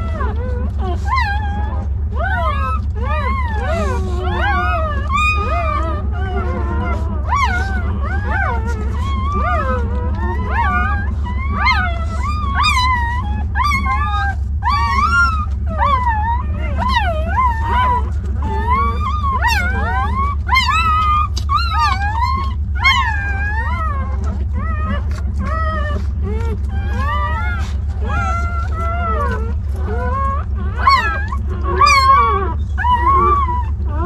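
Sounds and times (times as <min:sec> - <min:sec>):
low hum: 0:00.0 - 0:34.0
puppies squealing and whimpering: 0:00.0 - 0:34.0.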